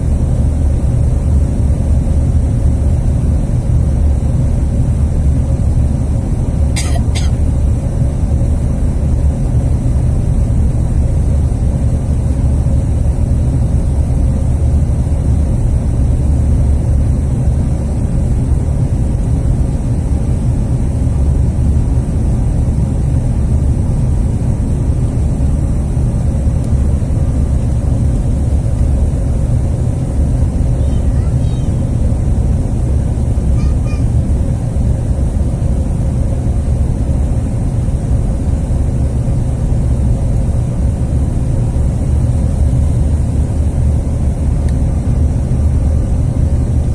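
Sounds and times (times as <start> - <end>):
faint steady hum: 0.0 - 46.9
jet engine cabin rumble: 0.0 - 46.9.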